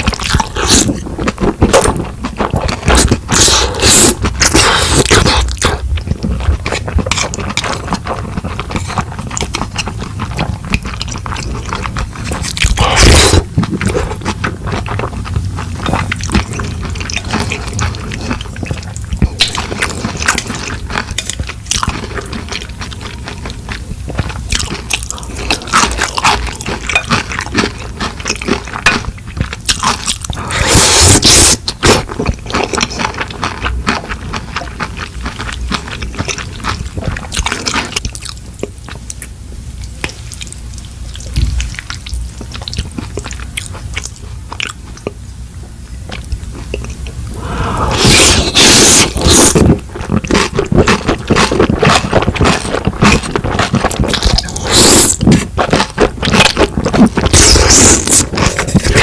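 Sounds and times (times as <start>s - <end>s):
wet chewing and mouth sounds: 0.0s - 59.0s.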